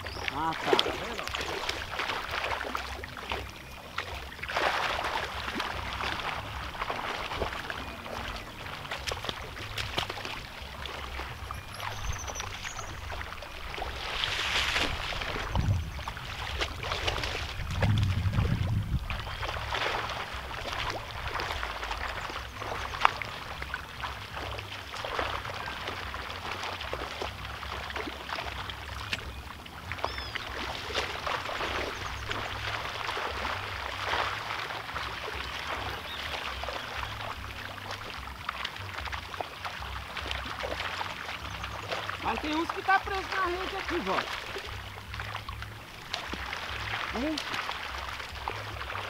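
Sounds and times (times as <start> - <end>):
pond water splashing: 0.0 - 49.0.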